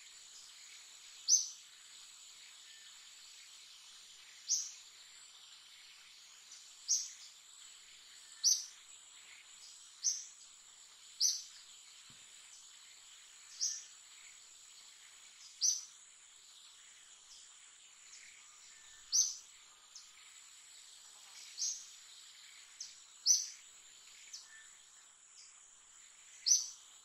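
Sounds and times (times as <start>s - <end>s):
bird chirping: 0.0s - 27.0s.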